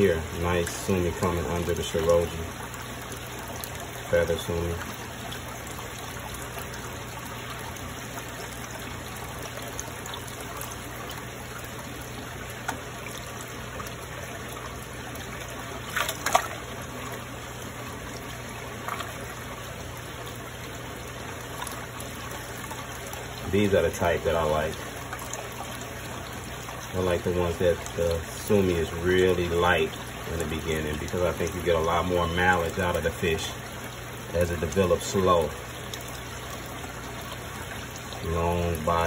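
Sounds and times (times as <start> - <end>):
water trickling: 0.0 - 39.0.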